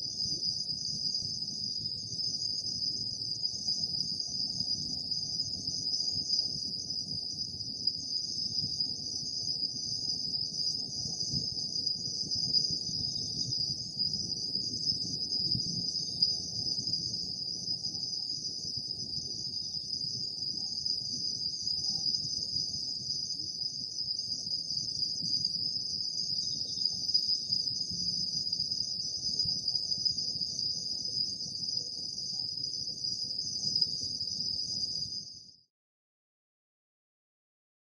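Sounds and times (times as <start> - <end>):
insects trilling: 0.1 - 35.3.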